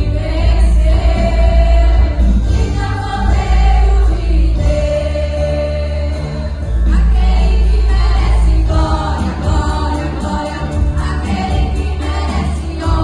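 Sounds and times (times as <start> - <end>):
choir singing gospel song: 0.0 - 13.0
instrumental backing with heavy bass: 0.0 - 13.0.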